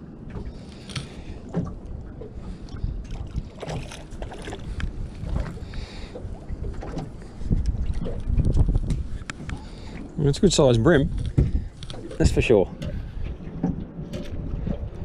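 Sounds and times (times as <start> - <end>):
water slapping boat hull: 0.0 - 15.0
wind buffeting microphone: 0.4 - 15.0.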